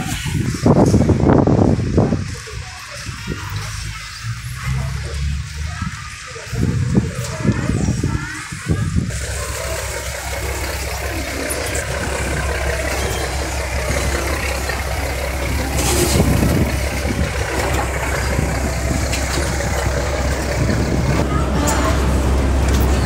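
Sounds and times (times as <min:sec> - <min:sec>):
boat engine humming: 0:00.0 - 0:23.0
water and wind noise: 0:00.0 - 0:23.0.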